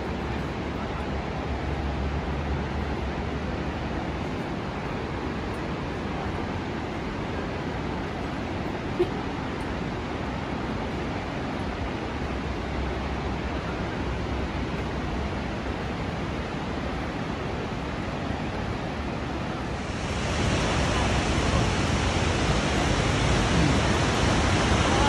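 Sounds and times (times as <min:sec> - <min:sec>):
waterfall rushing: 0:02.9 - 0:25.0.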